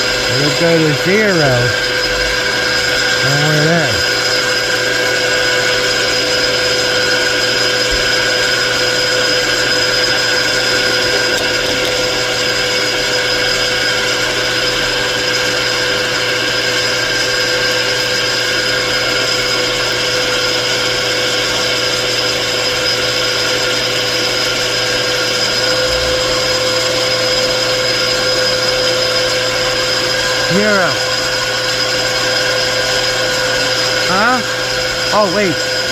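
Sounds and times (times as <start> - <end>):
machine tool spindle whine: 0.0 - 35.9.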